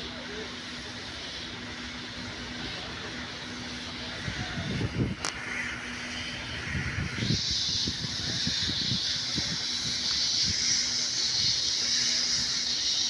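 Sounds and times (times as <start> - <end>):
hiss: 0.0 - 13.0
locomotive engine running: 0.0 - 13.0.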